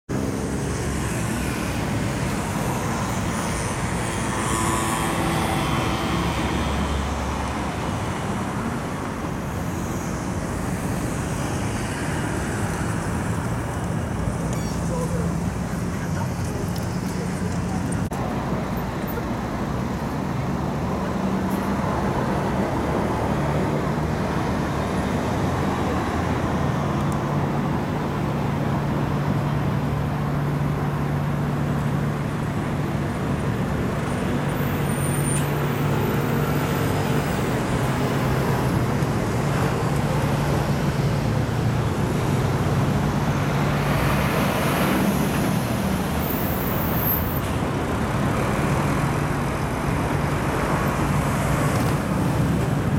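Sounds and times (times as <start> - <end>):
road traffic driving past: 0.1 - 52.9.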